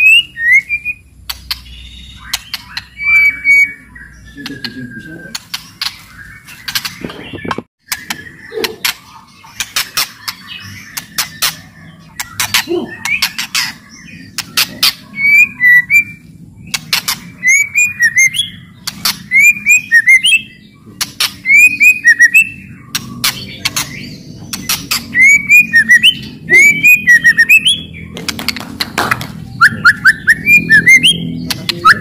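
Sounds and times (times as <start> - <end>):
songbird singing whistles and clicks: 0.0 - 3.8, 6.7 - 9.0, 9.6 - 13.8, 14.4 - 32.0.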